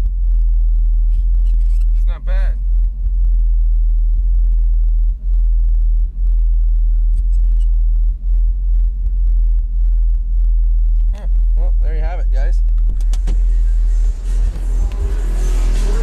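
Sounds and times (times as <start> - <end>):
deep bass from car subwoofers: 0.0 - 16.0.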